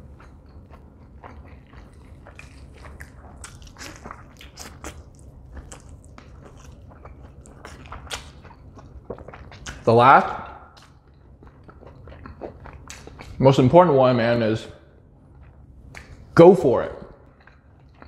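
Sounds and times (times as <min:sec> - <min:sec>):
person chewing with mouth clicks: 0:00.0 - 0:09.9, 0:10.5 - 0:13.4, 0:15.3 - 0:16.4, 0:17.1 - 0:18.0.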